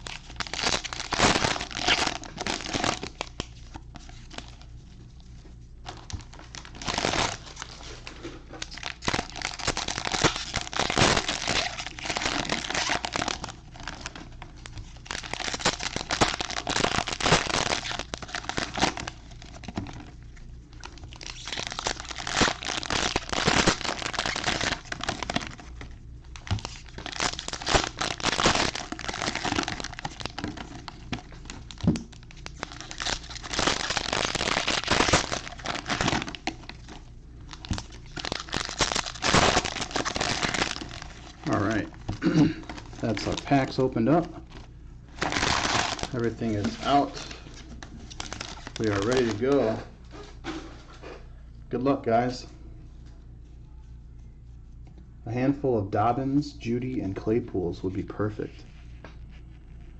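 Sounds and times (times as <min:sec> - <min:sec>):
foil wrappers tearing and crinkling: 0:00.0 - 0:04.7, 0:05.8 - 0:20.1, 0:20.7 - 0:49.8.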